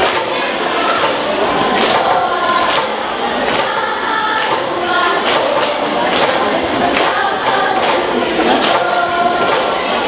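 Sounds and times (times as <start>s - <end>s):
children singing together: 0.0s - 10.0s
regular beat: 0.0s - 10.0s.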